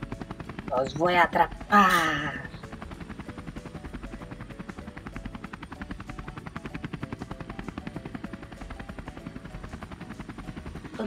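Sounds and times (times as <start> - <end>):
helicopter rotor chop: 0.0 - 11.0.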